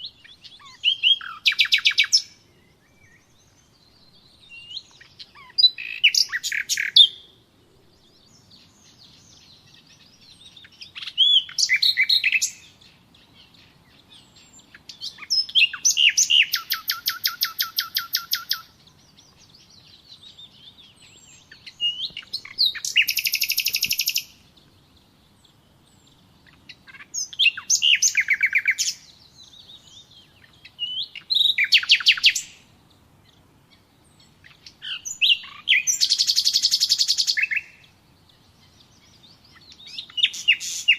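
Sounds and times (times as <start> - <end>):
songbird trilling: 0.0 - 7.4, 8.1 - 40.9
faint bird chirps: 0.0 - 40.9.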